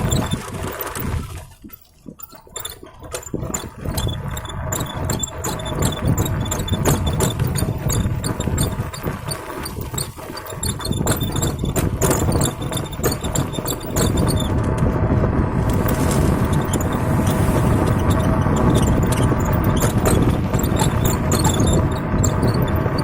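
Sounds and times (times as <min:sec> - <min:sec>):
vehicle rumble on rough road: 0:00.0 - 0:23.0.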